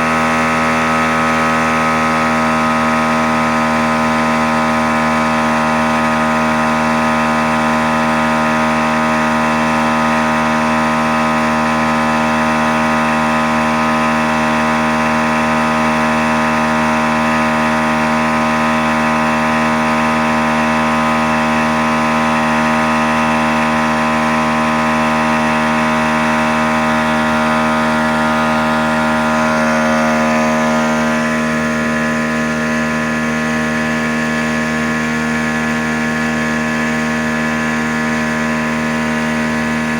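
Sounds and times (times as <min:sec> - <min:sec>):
outboard boat motor running: 0:00.0 - 0:39.9.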